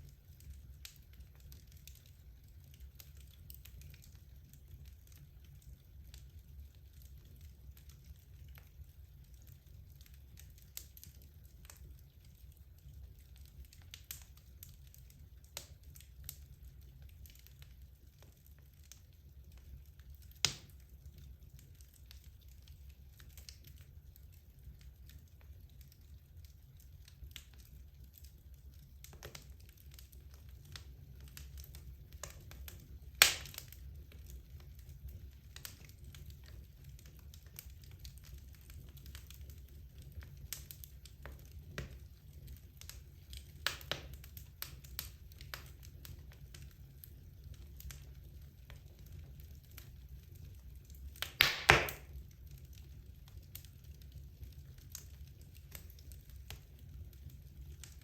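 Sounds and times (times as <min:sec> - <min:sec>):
fire crackles and sharp pops: 0:00.0 - 0:58.0
wood logs burning in fireplace: 0:00.0 - 0:58.0.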